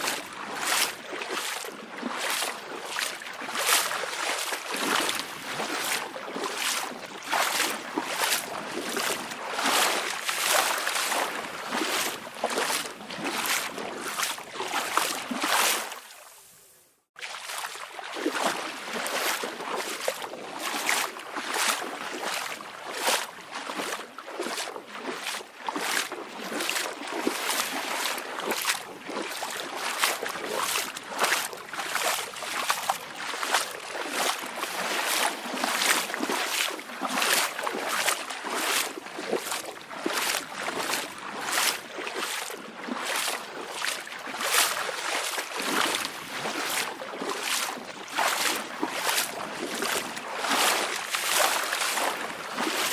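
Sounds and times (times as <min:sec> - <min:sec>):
small waves lapping and splashing: 0:00.0 - 0:52.9.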